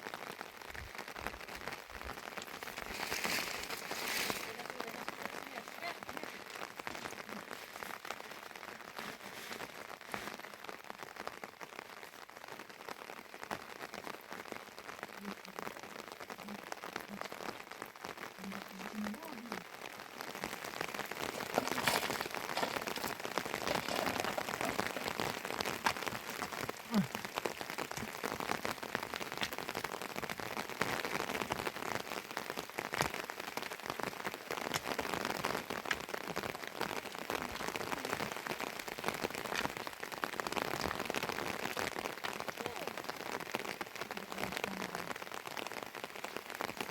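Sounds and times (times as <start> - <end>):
heavy rain on a surface: 0.0 - 46.9.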